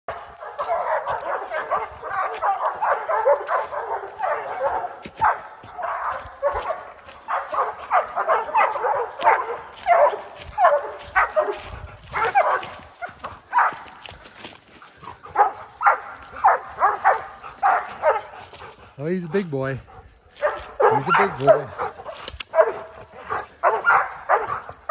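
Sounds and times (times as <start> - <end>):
dogs barking and yipping: 0.1 - 24.9.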